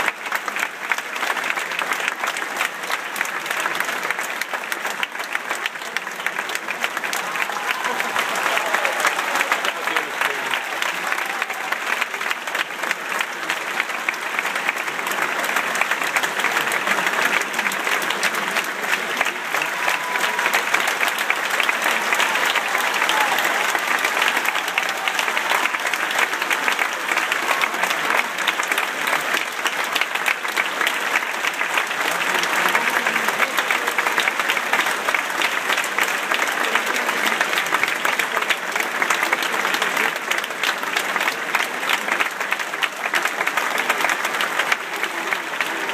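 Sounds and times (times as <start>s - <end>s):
audience applauding: 0.0s - 45.9s.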